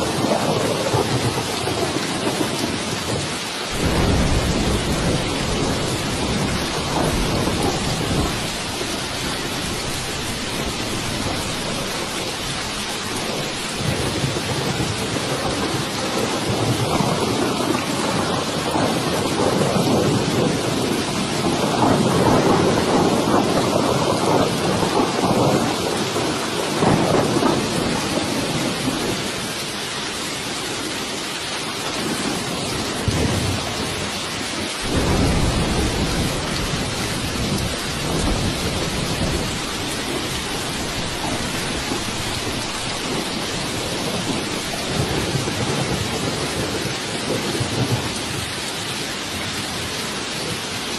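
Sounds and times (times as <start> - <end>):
rolling thunder: 0.0 - 29.8, 31.9 - 48.6
heavy rain: 0.0 - 50.9.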